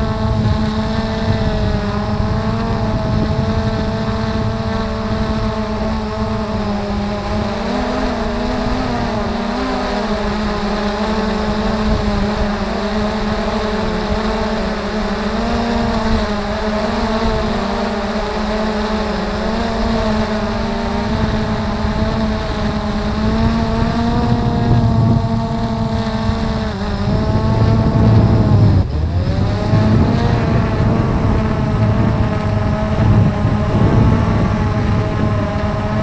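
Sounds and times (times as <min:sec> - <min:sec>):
drone propellers whirring: 0:00.0 - 0:36.0.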